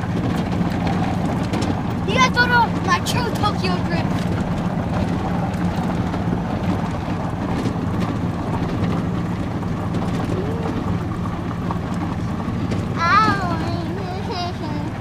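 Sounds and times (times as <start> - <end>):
motor hum: 0.0 - 15.0
tyres rumbling on gravel: 0.0 - 15.0.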